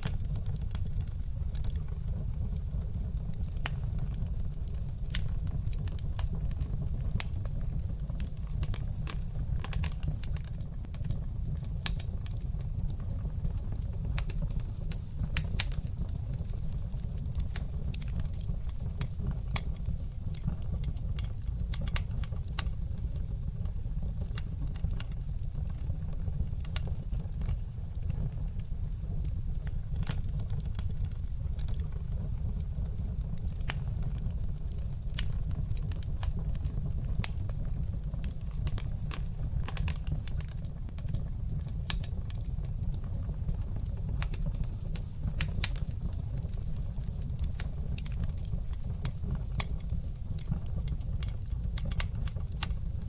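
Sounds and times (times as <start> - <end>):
fire crackling in a fireplace: 0.0 - 53.0.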